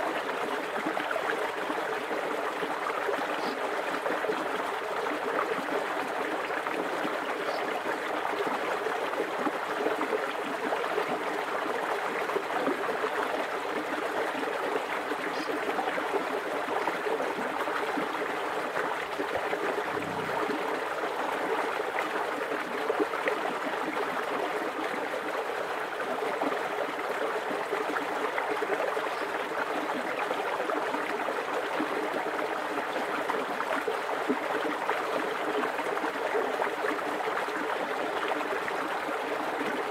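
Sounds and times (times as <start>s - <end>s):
creek water running: 0.0s - 39.9s.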